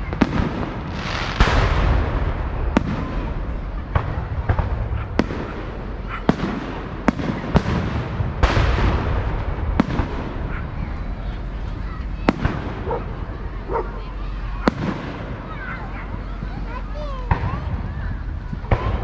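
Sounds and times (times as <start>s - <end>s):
firework booms with rumble: 0.0s - 19.0s
fireworks bangs: 0.0s - 19.0s.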